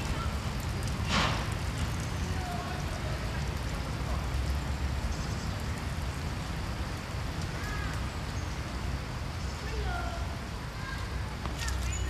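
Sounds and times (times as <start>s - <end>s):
fountain splashing into pool: 0.0s - 12.0s.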